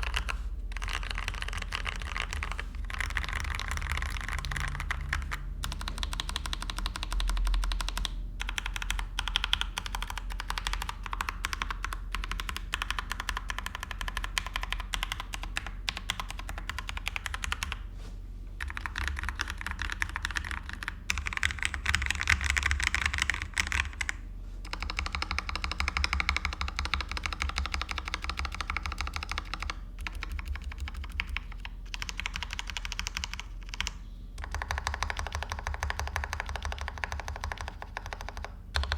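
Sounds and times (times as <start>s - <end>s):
mechanical keyboard typing: 0.0s - 17.8s, 18.6s - 38.9s.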